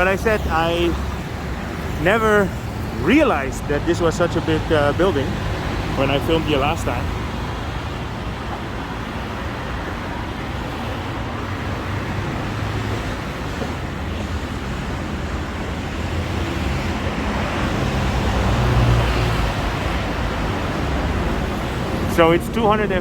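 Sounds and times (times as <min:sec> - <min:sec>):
road traffic: 0:00.0 - 0:23.0
vehicle passing close: 0:00.0 - 0:23.0.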